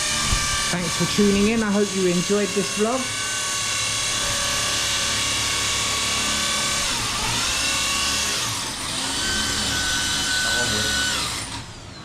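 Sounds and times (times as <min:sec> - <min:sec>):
power tool motor whining: 0:00.0 - 0:12.0.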